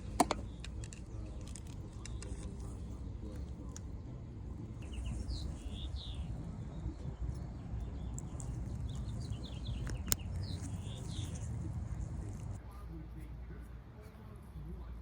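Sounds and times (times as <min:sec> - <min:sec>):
small birds chirping: 0:00.0 - 0:12.6
low steady rumble: 0:00.0 - 0:15.0.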